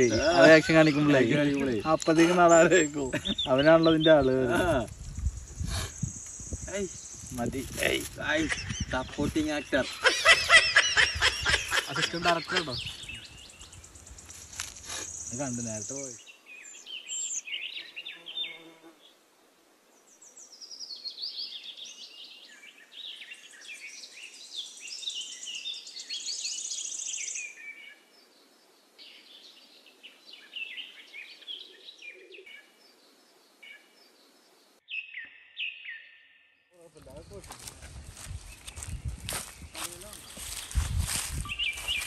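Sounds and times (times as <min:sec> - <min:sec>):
birds chirping and singing: 0:00.0 - 0:19.0, 0:20.0 - 0:42.0.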